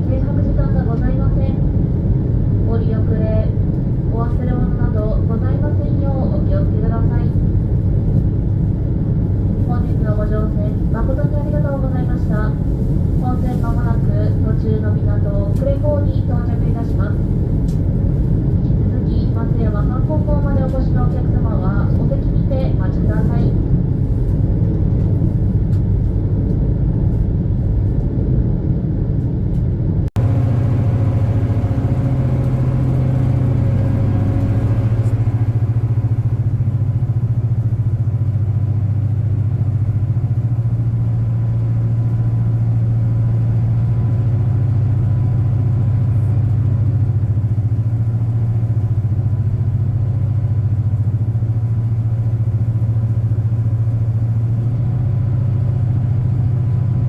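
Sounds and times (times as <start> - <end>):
ferry engines droning: 0.0 - 57.0.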